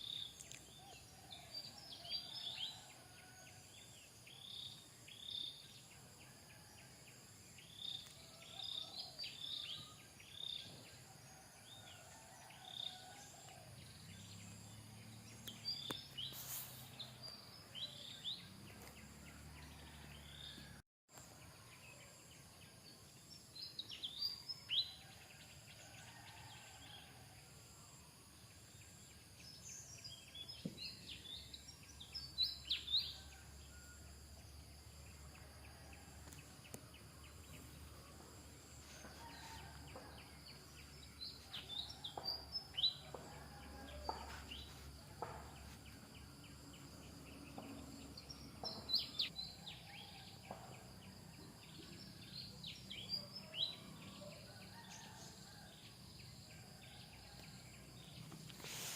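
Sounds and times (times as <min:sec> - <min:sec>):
faint outdoor background: 0:00.0 - 0:58.9.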